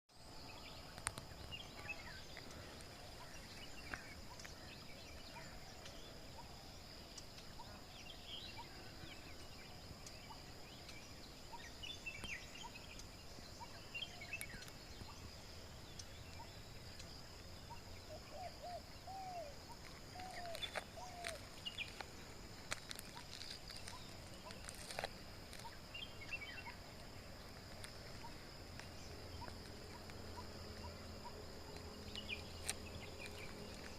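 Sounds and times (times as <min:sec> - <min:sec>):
high insect drone: 0:00.2 - 0:33.9.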